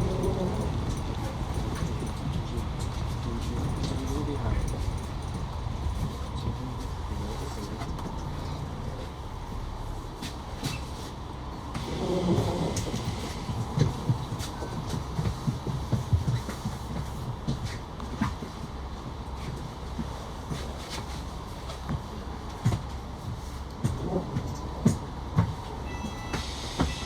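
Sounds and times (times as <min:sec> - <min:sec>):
vehicle rumbling: 0:00.0 - 0:26.0.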